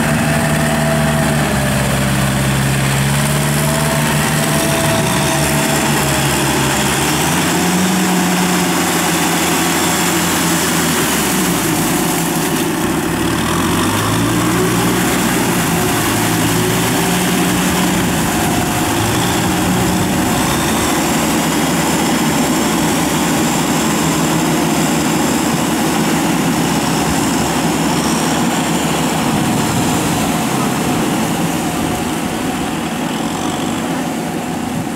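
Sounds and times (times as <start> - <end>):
diesel tractor engines running: 0.0 - 34.9.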